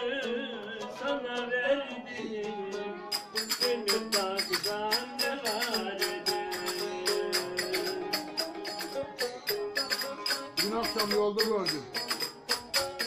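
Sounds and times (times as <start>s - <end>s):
plucked lute melody: 0.0s - 13.0s.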